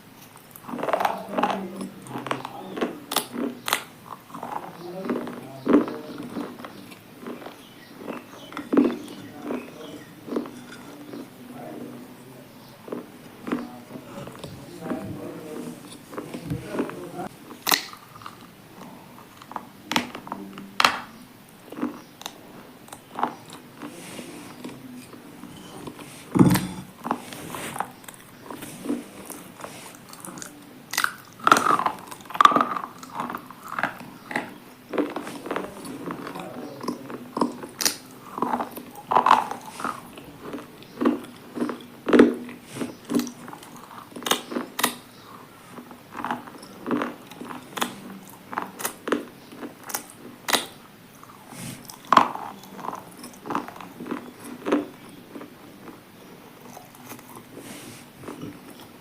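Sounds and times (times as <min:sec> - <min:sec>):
person crunching hard food: 0:00.0 - 0:11.4, 0:12.8 - 0:59.0.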